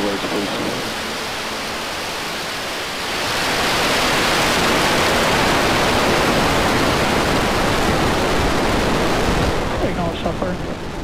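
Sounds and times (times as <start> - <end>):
rocket engines roaring: 0.0 - 11.0.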